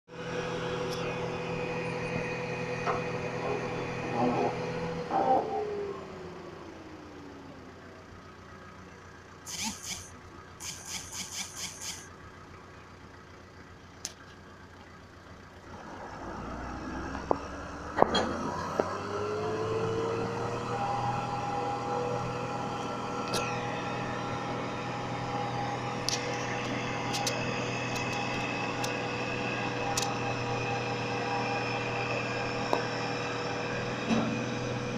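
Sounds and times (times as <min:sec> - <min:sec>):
tractor diesel engine revving: 0:00.1 - 0:34.9.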